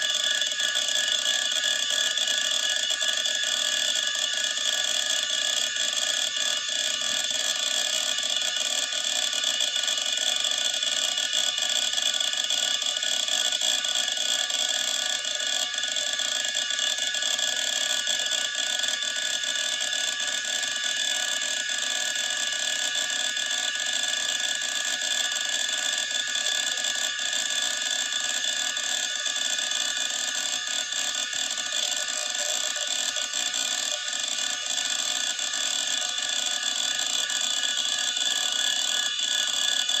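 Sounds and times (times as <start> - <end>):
hard disk spindle whine: 0.0 - 40.0.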